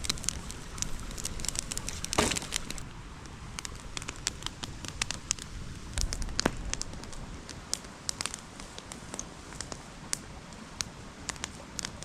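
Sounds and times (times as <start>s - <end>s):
campfire crackling: 0.0s - 12.0s
fire popping: 0.0s - 12.0s
fire rushing: 0.0s - 12.0s.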